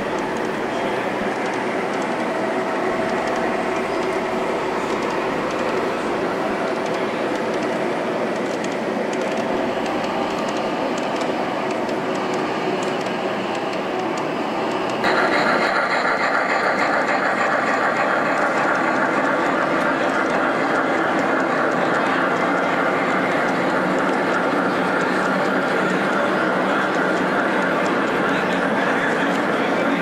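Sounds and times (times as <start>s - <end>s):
hall background noise: 0.0s - 30.0s
model train wheels on rails: 0.0s - 30.0s.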